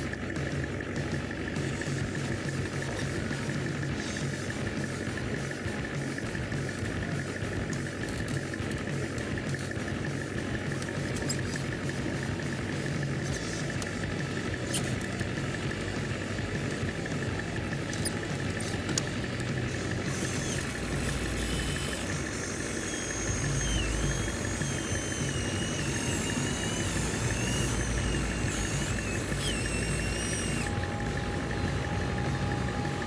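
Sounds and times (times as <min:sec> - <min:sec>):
electric motor whine: 0:00.0 - 0:33.0
model excavator engine drone: 0:00.0 - 0:33.0.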